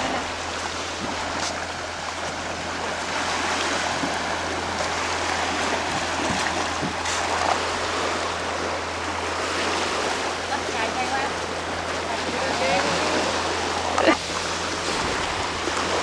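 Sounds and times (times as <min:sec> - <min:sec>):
seawater rushing and splashing: 0:00.0 - 0:16.0
steady low hum: 0:00.0 - 0:16.0.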